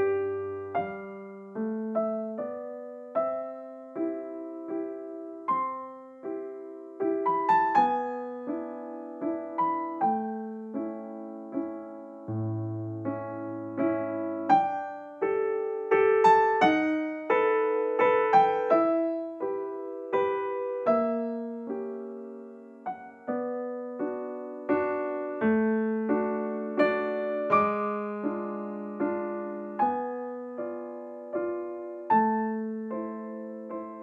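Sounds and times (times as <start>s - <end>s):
slow piano tune: 0.0s - 34.0s.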